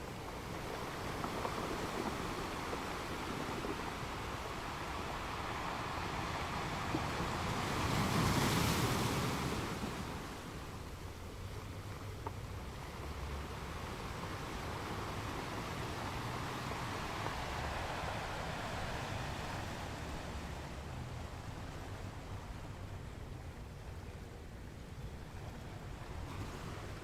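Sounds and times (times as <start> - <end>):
ocean waves washing onto beach: 0.0 - 27.0.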